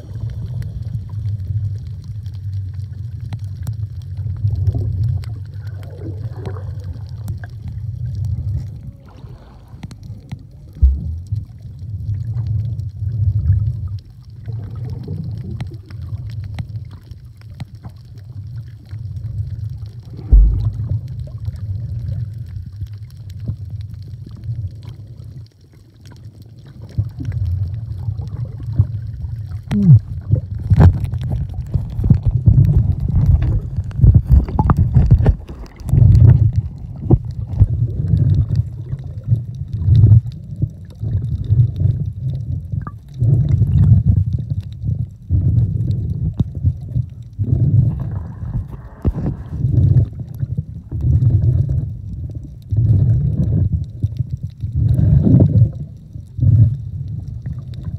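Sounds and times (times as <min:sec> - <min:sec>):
underwater churning rumble: 0:00.0 - 0:57.9.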